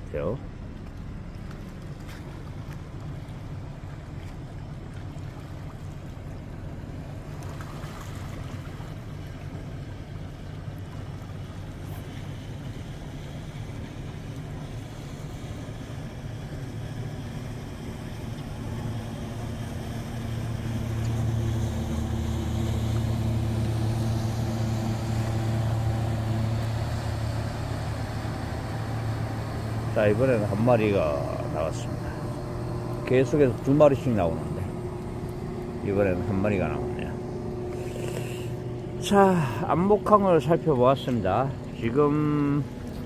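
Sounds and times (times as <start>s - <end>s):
motorboat engine running: 0.0s - 43.0s.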